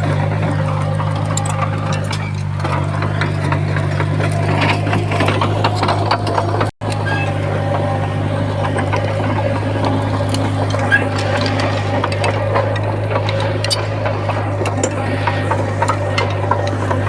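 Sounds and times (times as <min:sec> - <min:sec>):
bulldozer diesel engine running: 0:00.0 - 0:17.0
metallic clanks and rattles: 0:00.0 - 0:17.0.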